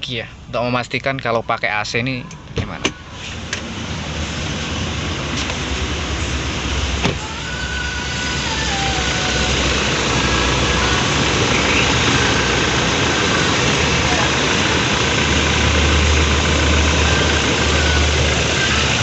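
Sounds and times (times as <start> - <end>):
car engine idling: 0.0 - 19.0
air-conditioning compressor running: 2.4 - 19.0.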